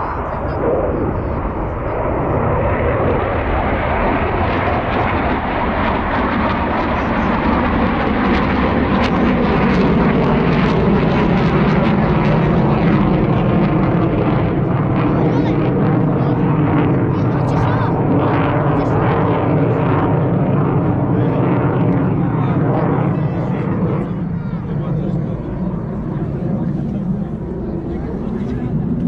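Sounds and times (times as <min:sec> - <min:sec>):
airplane flying past: 0:00.0 - 0:29.0.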